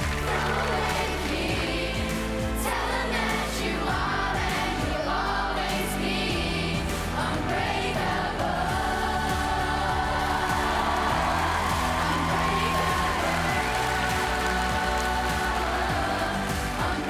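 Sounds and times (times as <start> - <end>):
group singing over beat: 0.0 - 17.0.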